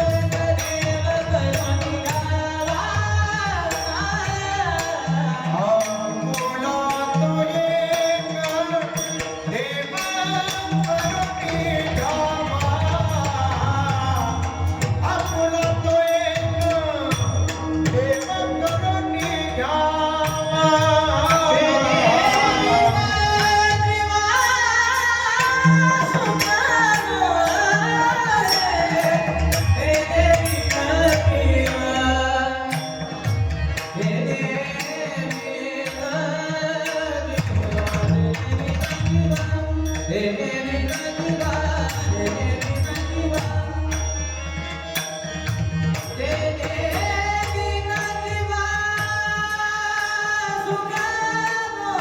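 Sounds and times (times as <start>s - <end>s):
jingling percussion: 0.0s - 52.0s.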